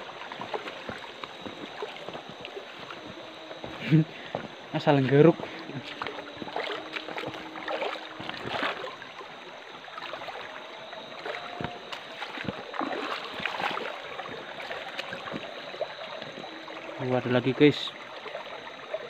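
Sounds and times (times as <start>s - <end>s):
stream water splashing: 0.0s - 19.0s.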